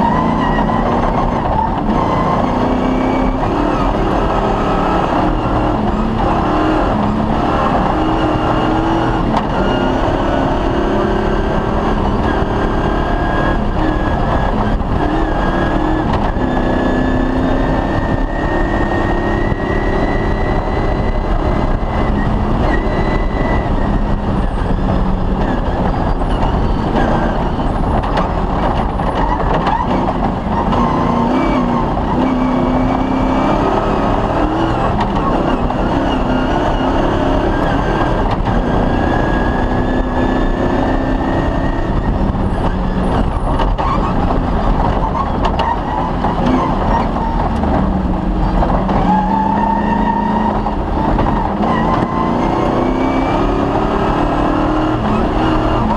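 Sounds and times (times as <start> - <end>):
rally car engine revving: 0.0 - 55.9
road noise rumble: 0.0 - 55.9.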